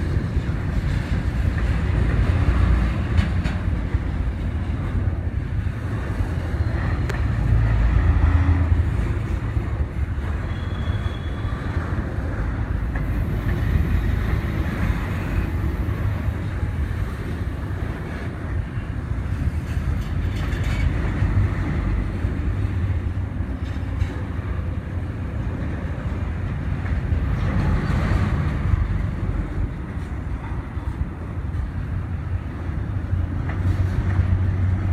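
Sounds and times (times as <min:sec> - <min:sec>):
train rumbling on track: 0:00.0 - 0:34.9.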